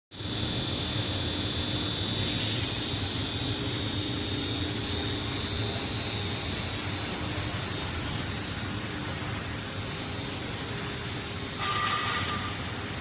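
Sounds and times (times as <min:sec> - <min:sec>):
high-pitched whine: 0:00.1 - 0:13.0
machinery drone: 0:00.1 - 0:13.0.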